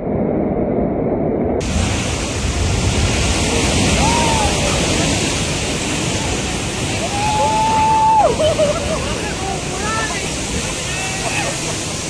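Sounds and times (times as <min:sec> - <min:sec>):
wind buffeting microphone: 0:00.0 - 0:12.0
moving water: 0:01.6 - 0:12.0.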